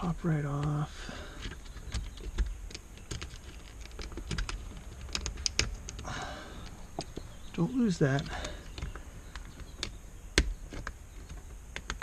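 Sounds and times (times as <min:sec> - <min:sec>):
plastic parts clicking: 0:01.4 - 0:07.3, 0:08.1 - 0:12.0.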